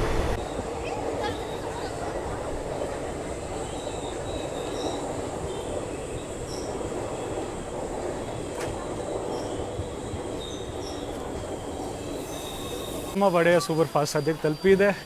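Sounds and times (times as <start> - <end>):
train wheels rumbling on rails: 0.0 - 13.2.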